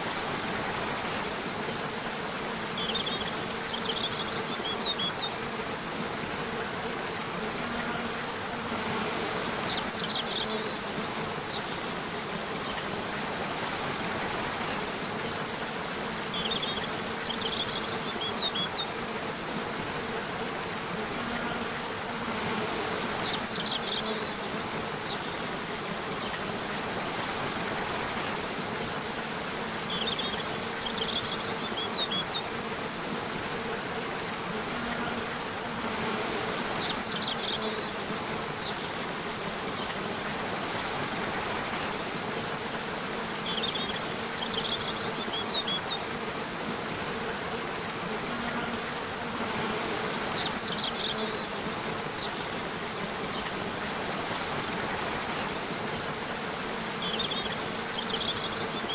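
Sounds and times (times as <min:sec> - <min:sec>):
bees buzzing: 0:00.1 - 0:58.9.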